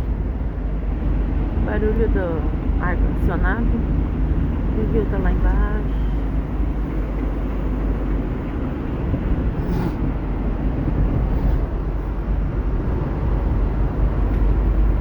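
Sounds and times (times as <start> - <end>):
air conditioning running: 0.0 - 15.0
car driving from inside cabin: 0.0 - 15.0.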